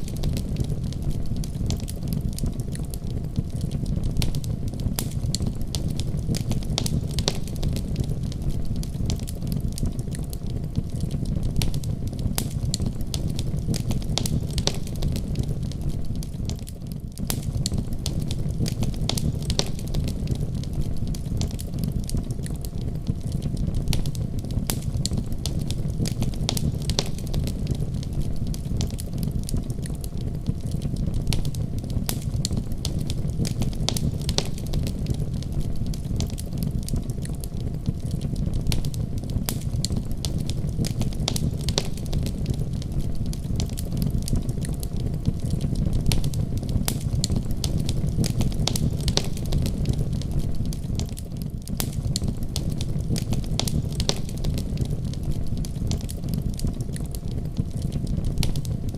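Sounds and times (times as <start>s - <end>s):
fire rumbling in a wood stove: 0.0s - 58.9s
wood crackling and popping: 0.0s - 58.9s.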